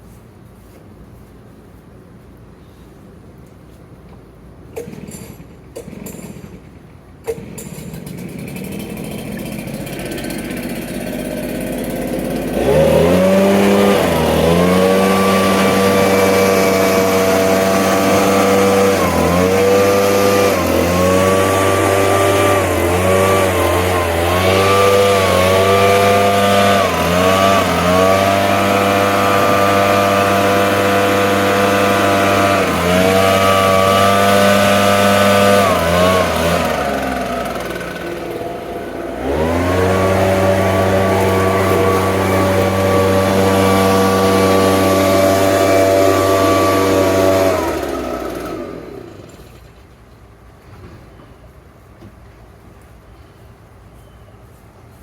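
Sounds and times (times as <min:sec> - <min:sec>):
small gasoline engine running: 0:04.8 - 0:49.9.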